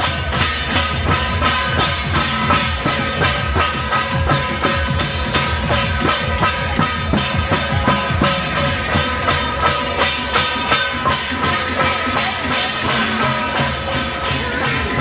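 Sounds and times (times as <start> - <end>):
drums beating: 0.0 - 15.0.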